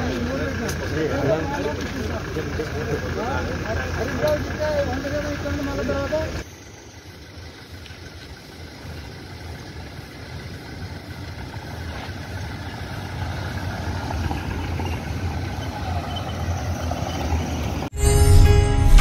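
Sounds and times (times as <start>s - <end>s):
vehicles passing close by: 0.0s - 17.9s
engine and tyre noise: 0.0s - 18.0s.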